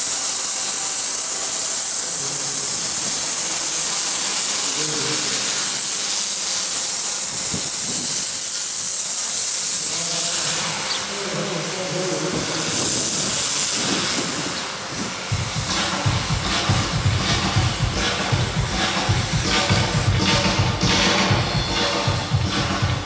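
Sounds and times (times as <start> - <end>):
pressure washer jet hissing: 0.0 - 23.0.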